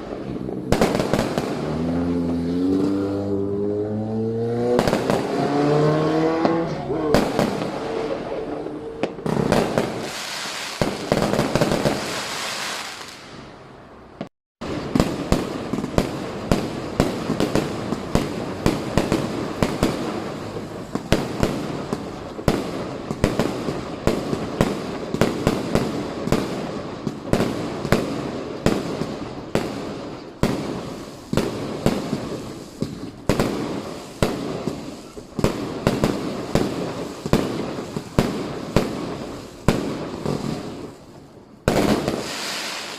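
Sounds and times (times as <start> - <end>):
firecrackers cracking and banging: 0.0 - 3.6, 4.5 - 13.5, 14.2 - 42.9.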